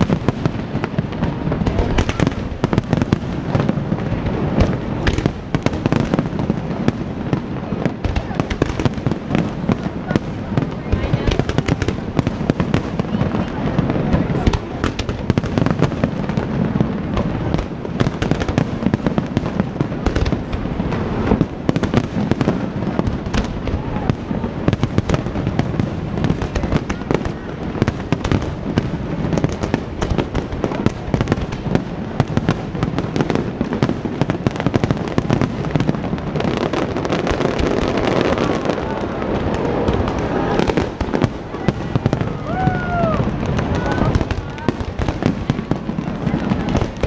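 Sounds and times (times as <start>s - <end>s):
fireworks bangs and crackling: 0.0s - 47.0s.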